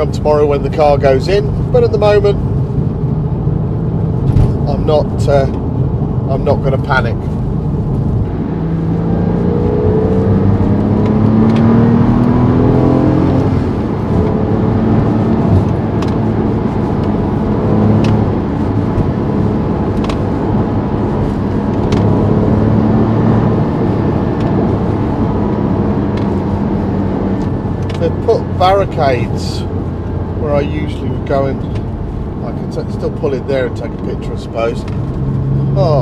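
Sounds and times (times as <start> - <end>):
car engine accelerating: 0.0 - 36.0
road noise: 0.0 - 36.0.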